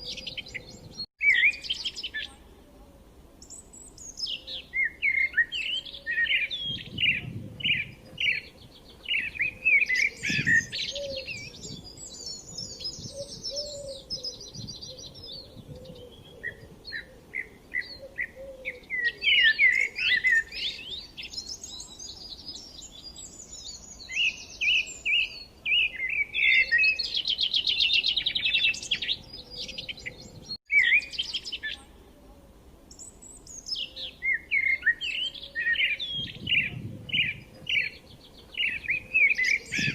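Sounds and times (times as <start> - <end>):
birds chirping and trilling: 0.0 - 2.8, 3.4 - 32.3, 32.9 - 39.9.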